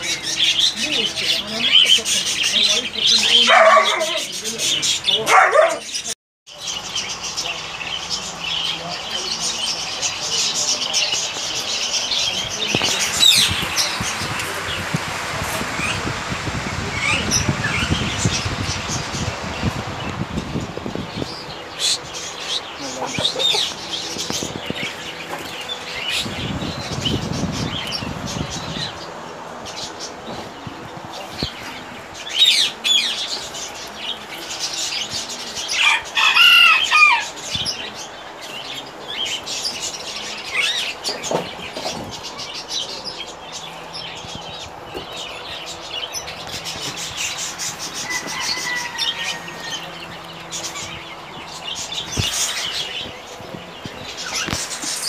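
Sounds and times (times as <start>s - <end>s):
caged birds chirping: 0.0s - 55.0s.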